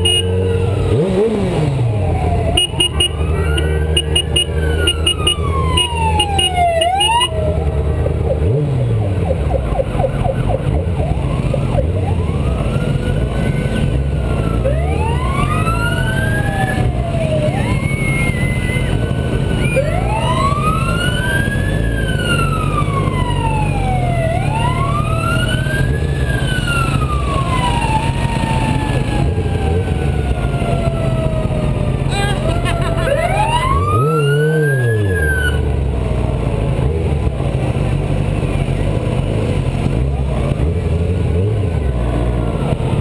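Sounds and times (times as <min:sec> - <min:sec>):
fire engine sirens wailing: 0:00.0 - 0:36.0.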